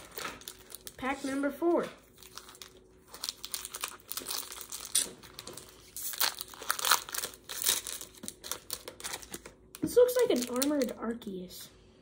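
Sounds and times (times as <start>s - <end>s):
foil wrapper crinkling and tearing: 0.0s - 1.4s, 2.0s - 11.0s.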